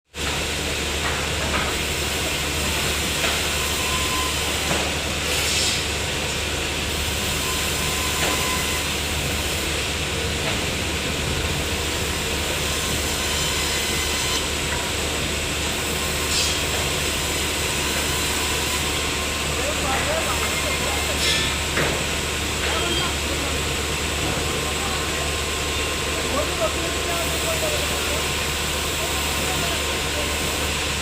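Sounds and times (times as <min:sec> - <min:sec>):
sawmill machinery running: 0:00.2 - 0:31.0.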